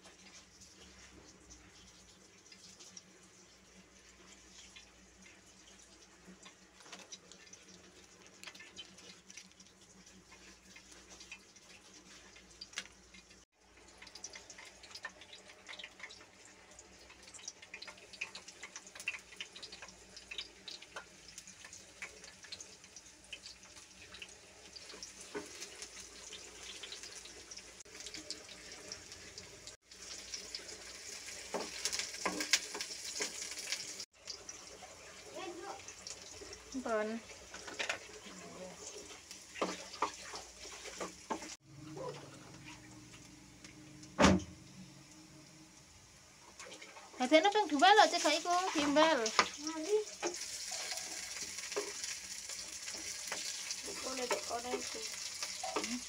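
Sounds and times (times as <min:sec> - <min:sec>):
spatula stirring onion: 0:00.0 - 0:13.4, 0:14.0 - 0:42.9, 0:46.5 - 0:56.0
fat sizzling in a frying pan: 0:00.0 - 0:56.0.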